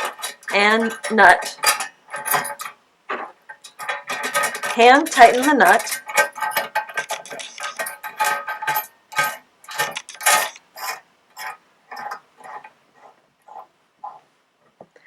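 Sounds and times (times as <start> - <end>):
small metal parts clicking: 0.0 - 14.2.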